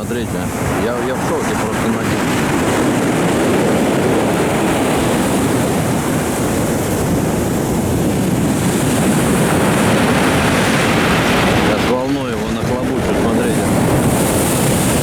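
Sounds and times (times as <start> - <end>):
breaking waves: 0.0 - 15.0
wind buffeting microphone: 0.0 - 15.0.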